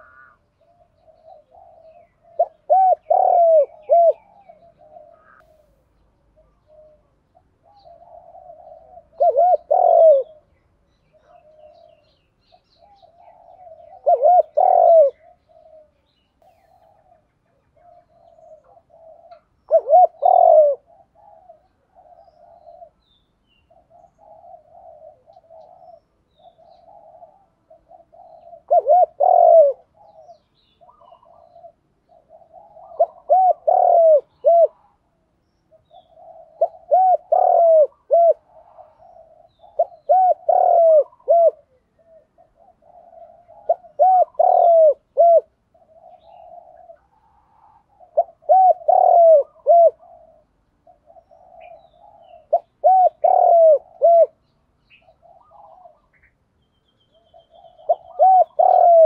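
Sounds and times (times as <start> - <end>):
soft low cooing: 0.0 - 12.2, 12.8 - 23.0, 23.7 - 35.1, 35.8 - 54.4, 57.3 - 59.0
dove cooing: 0.0 - 56.4, 57.1 - 59.0.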